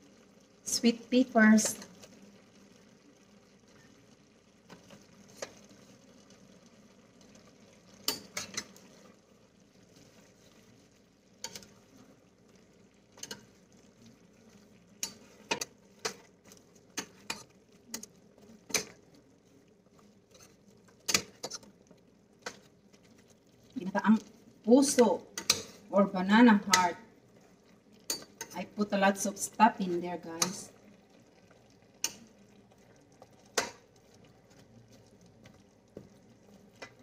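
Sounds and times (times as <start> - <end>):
metal spoon stirring in pot: 4.7 - 6.1, 7.9 - 9.2, 9.8 - 37.0.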